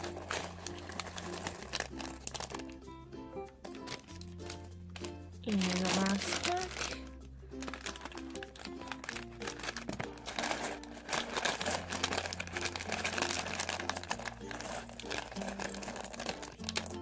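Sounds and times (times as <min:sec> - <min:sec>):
plastic bag tearing and crinkling: 0:00.0 - 0:02.8, 0:03.7 - 0:04.6, 0:05.4 - 0:17.0
plastic bricks rattling: 0:00.0 - 0:02.8, 0:03.6 - 0:17.0
light background music: 0:00.0 - 0:17.0.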